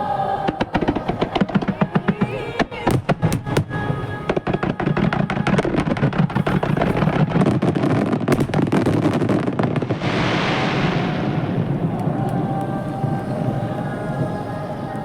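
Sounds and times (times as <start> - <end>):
firework shells bursting: 0.5 - 13.3
dense fireworks crackle: 0.5 - 15.0.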